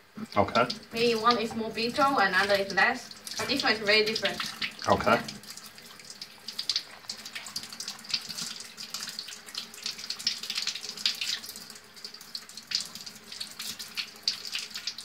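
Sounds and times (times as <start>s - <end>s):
water splashing and trickling: 0.4s - 15.0s.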